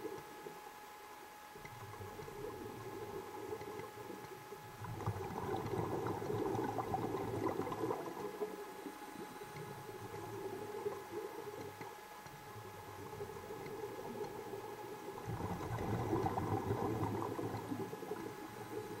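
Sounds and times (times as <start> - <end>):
faint steady hum: 0.0 - 19.0
underwater bubbling: 0.0 - 19.0.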